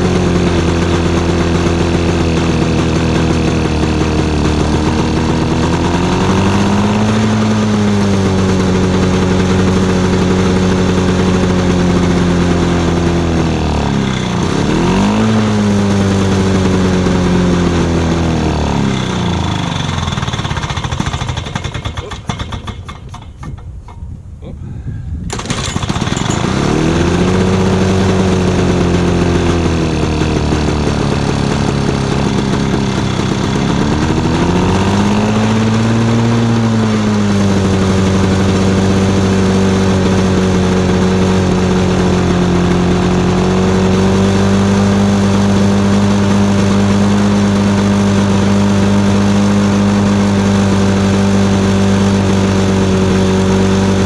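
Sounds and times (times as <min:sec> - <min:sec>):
lawn mower engine running: 0:00.0 - 0:24.5, 0:25.2 - 0:54.0.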